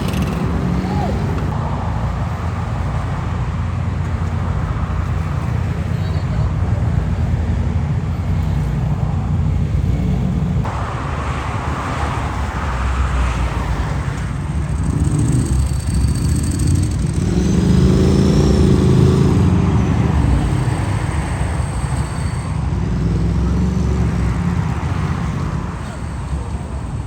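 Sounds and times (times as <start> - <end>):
engines rumbling: 0.0 - 27.0
passing traffic: 0.0 - 27.0.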